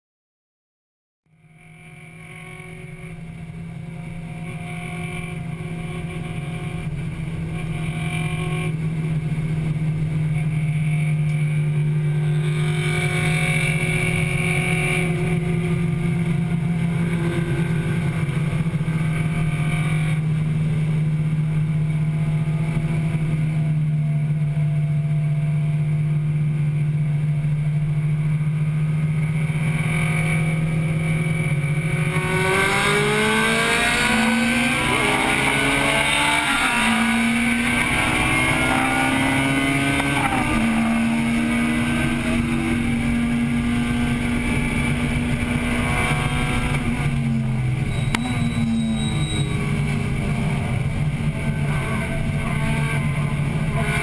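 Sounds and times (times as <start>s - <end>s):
car engine at steady revs: 1.3s - 54.0s.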